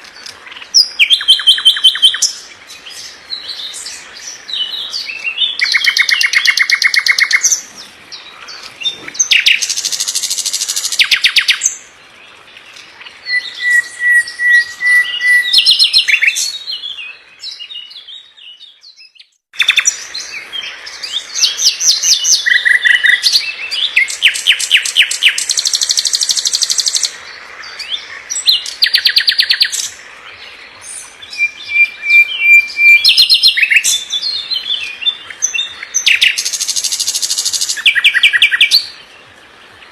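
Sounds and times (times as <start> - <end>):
songbird trilling and chattering: 0.0 - 11.9, 12.6 - 39.0.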